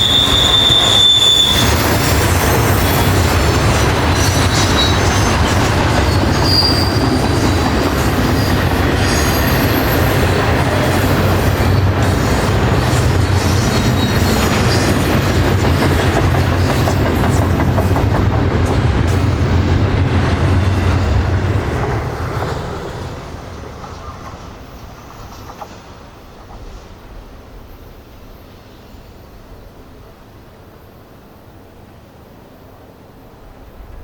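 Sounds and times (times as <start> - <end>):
freight train wheels clacking: 0.0 - 27.2.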